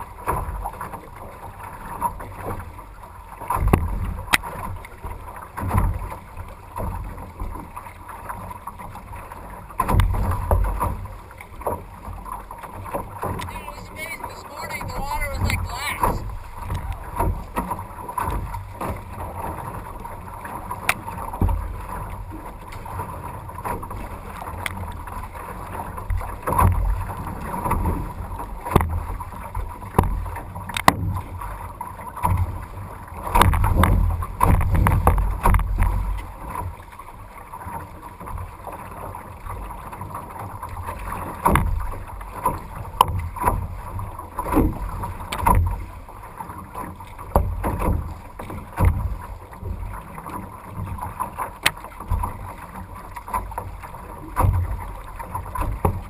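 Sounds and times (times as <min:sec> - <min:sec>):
water splashing against hull: 0:00.0 - 0:56.0.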